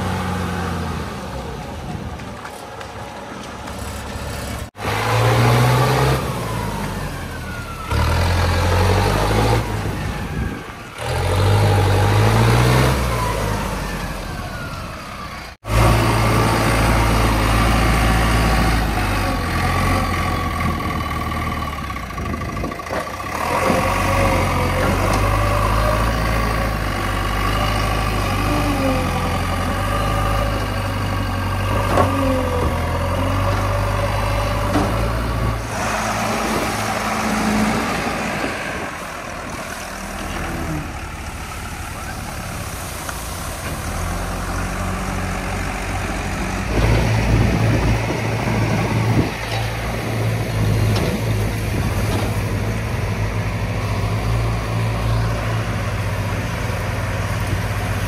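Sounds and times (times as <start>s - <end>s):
diesel engines running under load: 0.0s - 58.0s.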